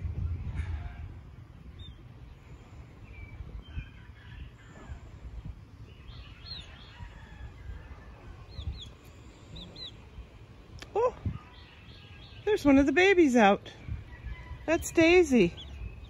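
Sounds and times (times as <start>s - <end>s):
low outdoor background rumble: 0.0s - 16.0s.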